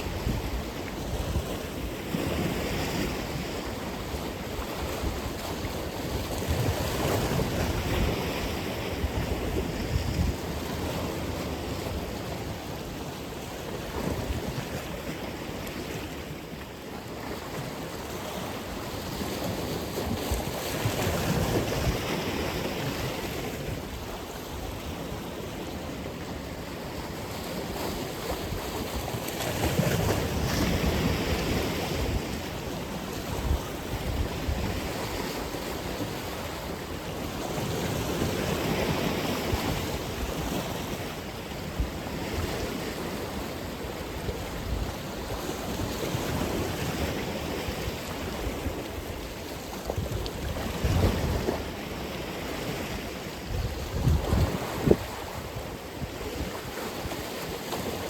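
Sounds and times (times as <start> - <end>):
wind on microphone: 0.0 - 16.4, 27.5 - 58.0
ocean waves breaking: 0.0 - 58.0.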